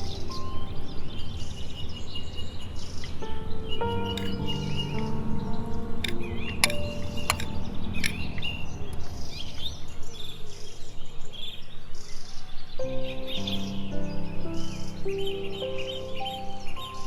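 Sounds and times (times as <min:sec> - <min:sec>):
soft sustained music notes: 0:00.0 - 0:12.0, 0:12.6 - 0:17.0
small birds chirping: 0:00.0 - 0:17.0.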